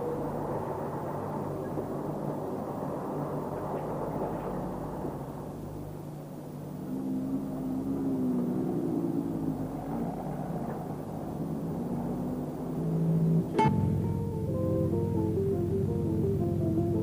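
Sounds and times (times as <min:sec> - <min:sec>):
traffic engines humming: 0:00.0 - 0:17.0.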